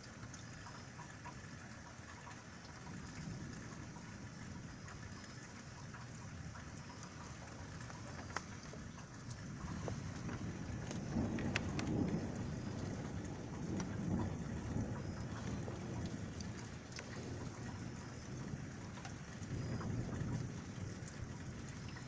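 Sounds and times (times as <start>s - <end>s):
heavy rain falling: 0.0s - 22.0s
raindrops ticking close by: 0.0s - 22.0s
thunder rumbling: 2.8s - 22.0s.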